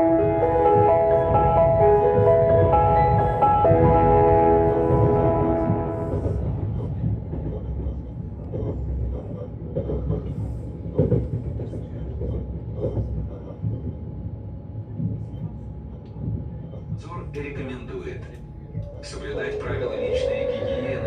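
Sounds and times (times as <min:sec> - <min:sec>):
electric train rumbling on rails: 0:00.0 - 0:21.0.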